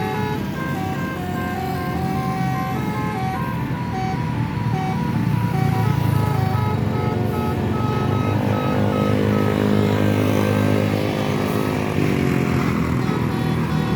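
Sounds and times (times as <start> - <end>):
diesel bus engine drone: 0.0 - 13.9.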